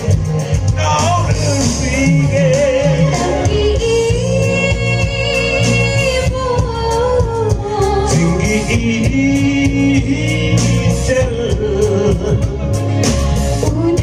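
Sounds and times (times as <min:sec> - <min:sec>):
amplified backing music: 0:00.0 - 0:14.0
person singing into microphone: 0:00.0 - 0:14.0.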